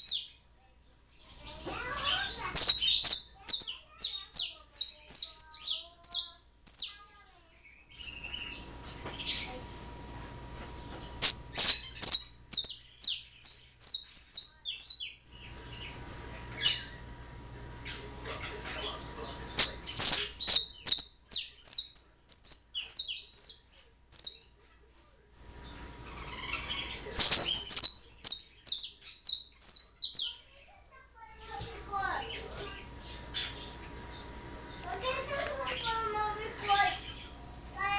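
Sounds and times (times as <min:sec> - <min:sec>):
canary singing: 0:00.0 - 0:00.4, 0:01.1 - 0:09.6, 0:10.8 - 0:24.6, 0:25.5 - 0:30.8, 0:32.0 - 0:37.9.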